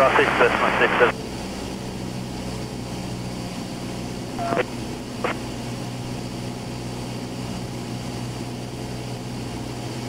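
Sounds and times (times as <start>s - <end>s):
light aircraft engine drone: 0.0s - 10.0s.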